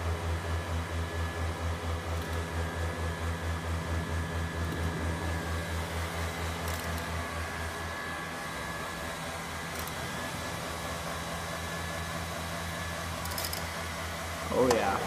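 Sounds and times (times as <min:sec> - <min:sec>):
low pulsing hum: 0:00.0 - 0:15.0
motor whir: 0:02.0 - 0:15.0.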